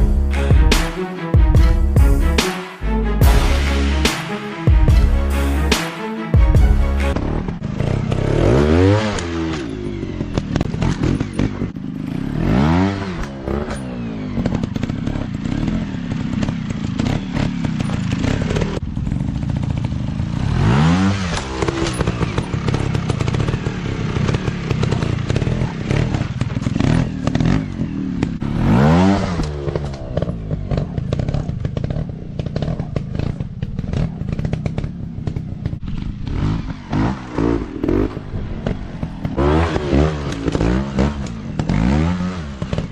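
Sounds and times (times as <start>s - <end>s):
dirt bike engines revving: 7.0s - 42.9s.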